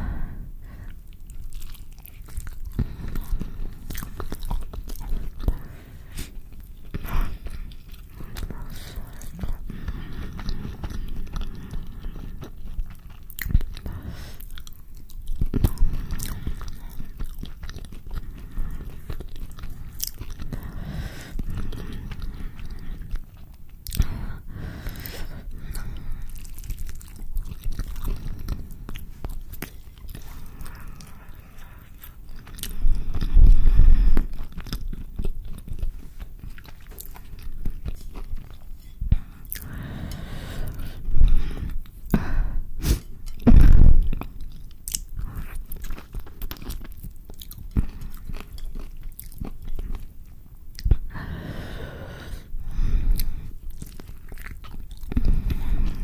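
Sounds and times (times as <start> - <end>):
close chewing and biting: 0.0 - 56.0.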